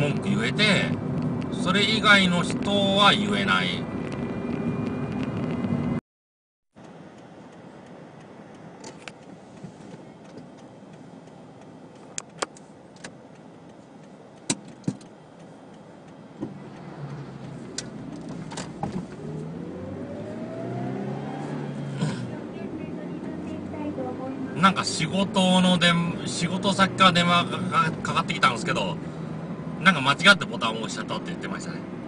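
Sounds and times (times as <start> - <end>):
car engine and road noise: 0.0 - 6.0, 6.8 - 32.0.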